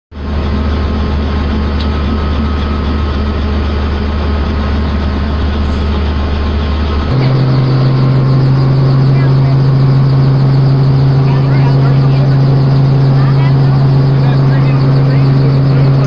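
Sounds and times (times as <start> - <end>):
helicopter engine and rotor drone: 0.1 - 16.0.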